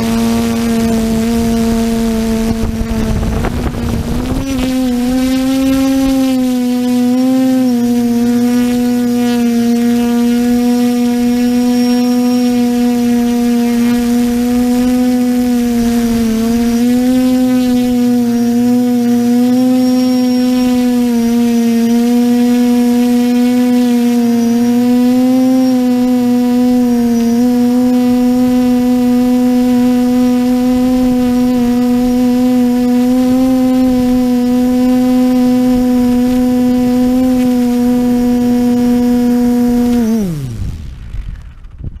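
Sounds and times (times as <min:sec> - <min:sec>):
quadcopter motors whining: 0:00.0 - 0:42.0.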